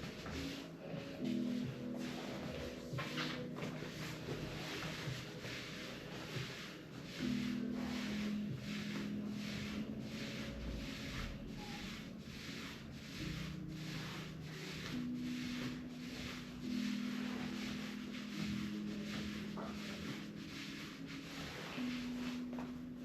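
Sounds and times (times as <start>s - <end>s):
hands rubbing over body: 0.0s - 23.0s.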